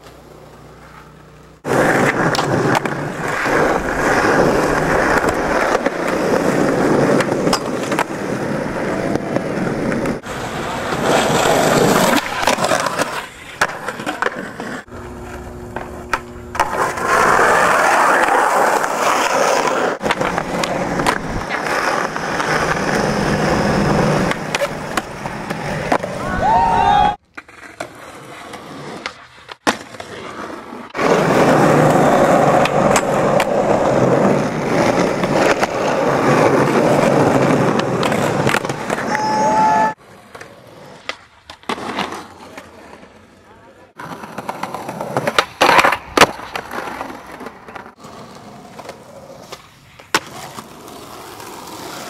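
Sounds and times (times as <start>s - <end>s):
skateboard clacking: 0.0s - 52.0s
skateboard wheels rolling on concrete: 0.0s - 52.0s
skateboard grinding on concrete ledge: 0.2s - 26.2s, 27.4s - 43.3s, 43.9s - 52.0s.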